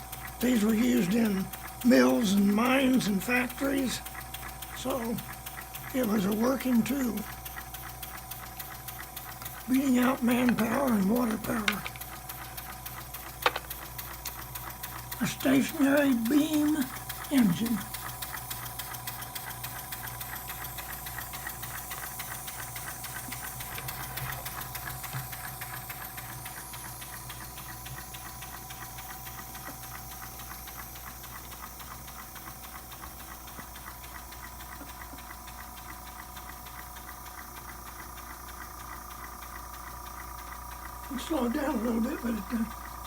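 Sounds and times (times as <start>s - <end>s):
model engine ticking and clattering: 0.0s - 43.0s
small compressor whining: 0.0s - 43.0s.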